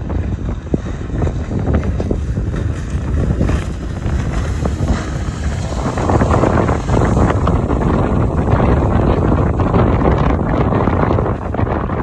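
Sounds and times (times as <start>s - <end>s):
outboard motor running: 0.0s - 12.0s
wind buffeting microphone: 0.0s - 12.0s.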